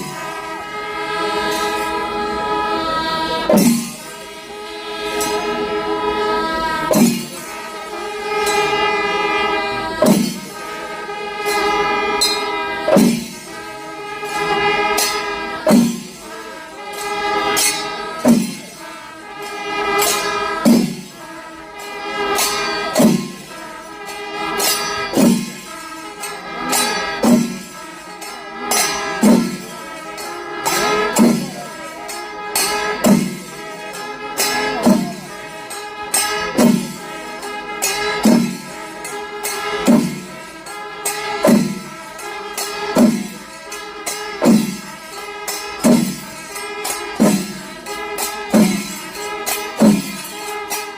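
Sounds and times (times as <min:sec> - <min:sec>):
sharp percussive strikes: 0:00.0 - 0:50.9.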